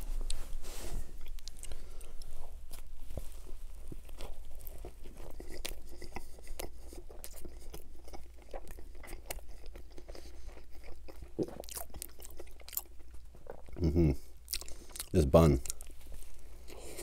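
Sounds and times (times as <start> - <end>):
biting into bread: 1.2 - 15.9
chewing with wet smacks: 1.2 - 17.0.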